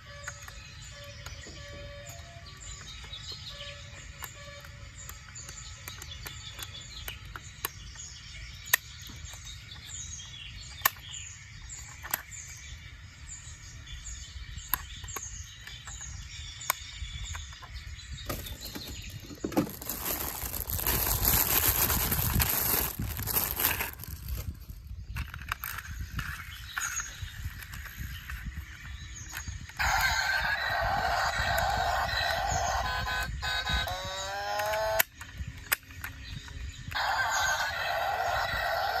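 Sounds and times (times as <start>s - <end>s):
bird chirping falling calls: 0.0s - 39.0s.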